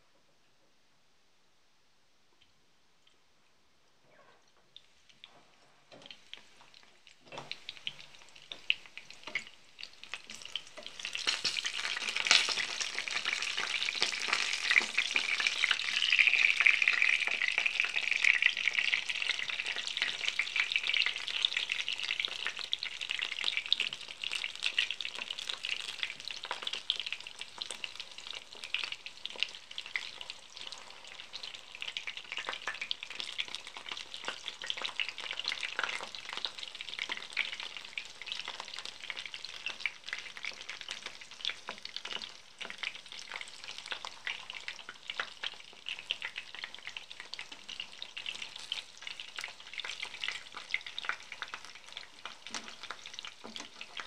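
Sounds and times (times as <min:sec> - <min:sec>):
food sizzling in hot oil: 0:04.8 - 0:54.0.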